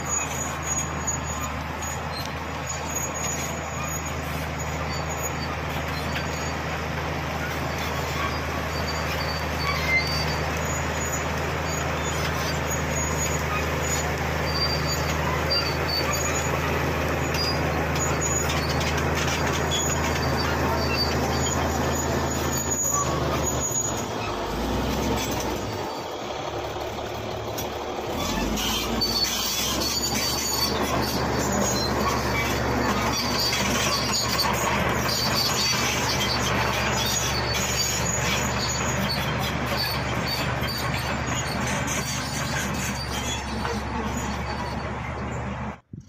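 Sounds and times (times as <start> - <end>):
steel tracks squealing: 0.0 - 45.9
bulldozer diesel engine under load: 0.0 - 46.0.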